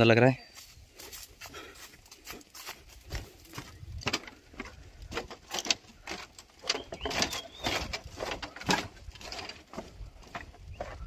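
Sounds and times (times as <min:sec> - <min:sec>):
footsteps on bamboo slats: 0:00.5 - 0:11.0.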